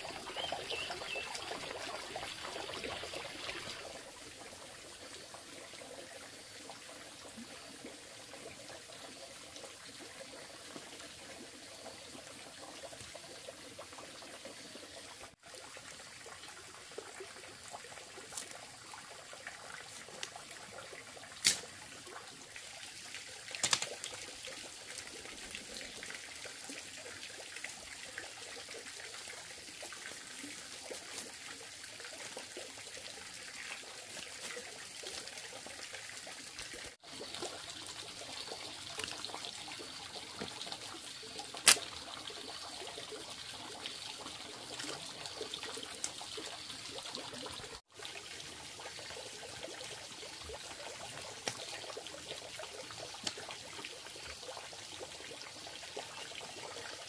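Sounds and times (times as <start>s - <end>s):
water trickling and pouring: 0.0s - 57.0s.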